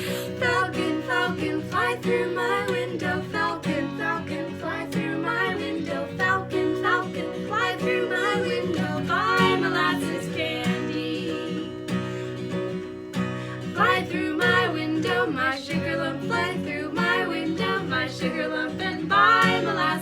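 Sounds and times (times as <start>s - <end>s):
strummed acoustic guitar: 0.0s - 20.0s
woman singing: 0.0s - 20.0s.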